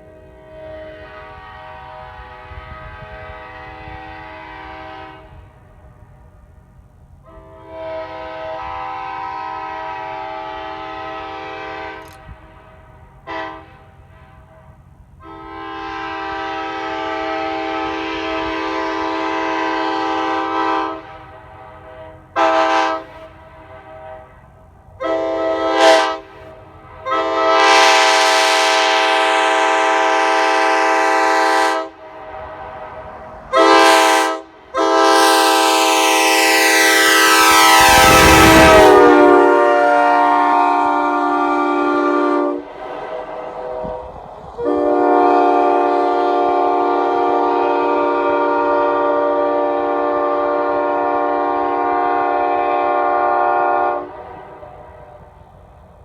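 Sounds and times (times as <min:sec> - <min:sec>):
train horn chord blasts: 0:00.0 - 0:06.4, 0:07.2 - 0:55.3.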